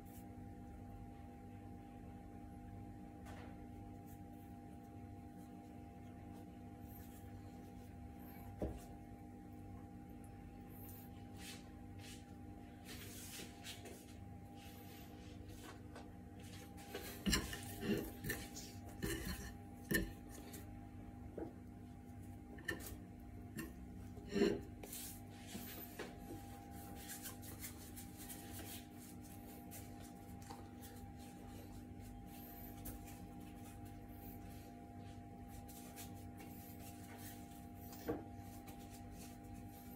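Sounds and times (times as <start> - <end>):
steady faint hum: 0.0 - 39.9.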